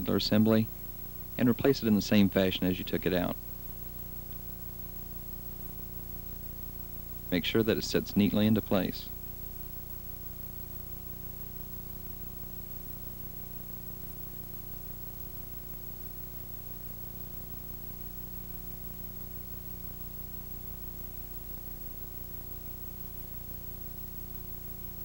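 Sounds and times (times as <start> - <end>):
tape hiss and hum: 0.0 - 25.0.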